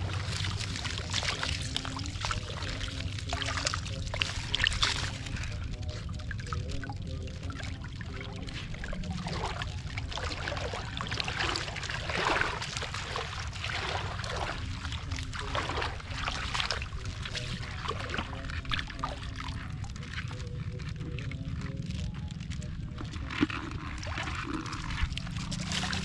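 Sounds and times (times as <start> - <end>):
water draining through basket: 0.0 - 20.8
steady low rumble: 0.0 - 26.0
water splashing and sloshing: 0.0 - 26.0.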